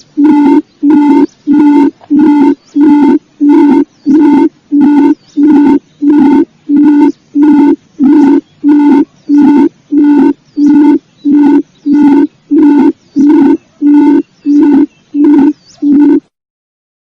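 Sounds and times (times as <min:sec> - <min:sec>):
faint high bird chirps: 0:00.0 - 0:16.3
quail hooting call: 0:00.0 - 0:16.3.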